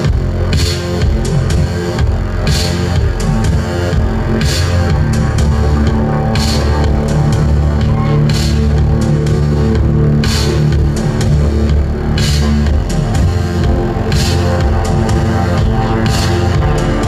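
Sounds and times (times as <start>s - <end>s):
synthpop band playing: 0.0s - 17.0s.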